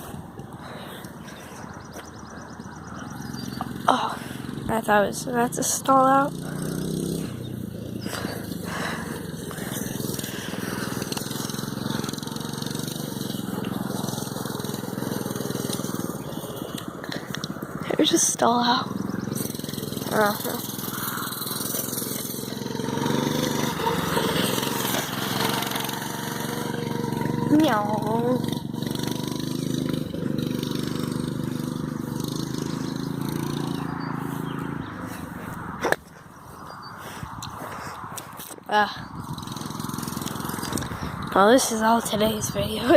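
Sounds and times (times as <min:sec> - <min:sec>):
small engine running at low speed: 0:00.0 - 0:42.9.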